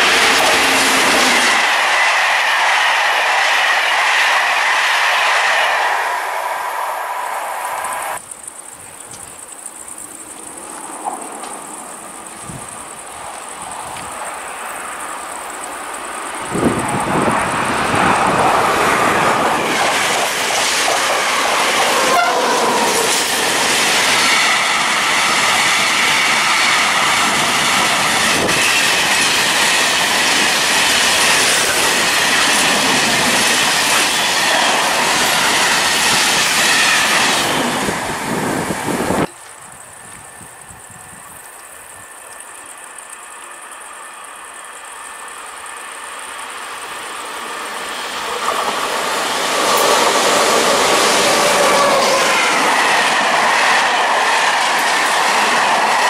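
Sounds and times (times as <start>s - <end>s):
freight train rumbling and clattering: 0.0s - 6.8s, 10.8s - 42.9s, 44.5s - 56.0s.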